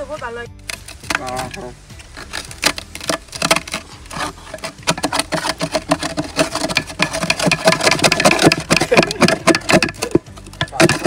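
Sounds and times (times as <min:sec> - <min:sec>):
metal spoon scraping a pot: 0:02.1 - 0:11.0.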